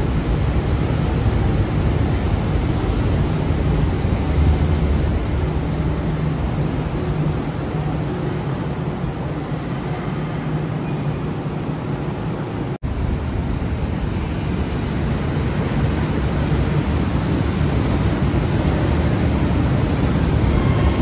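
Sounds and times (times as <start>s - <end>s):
train pulling into platform: 0.0s - 21.0s
train wheels rumbling on rail: 0.0s - 21.0s.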